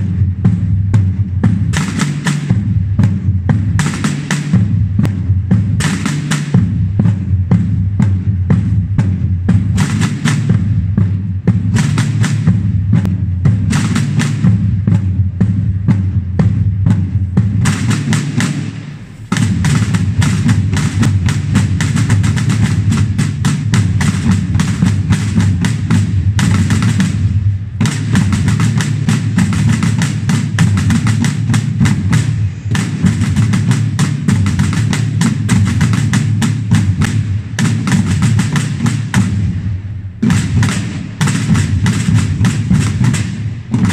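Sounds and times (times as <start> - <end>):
field drums marching rhythm: 0.0 - 43.9.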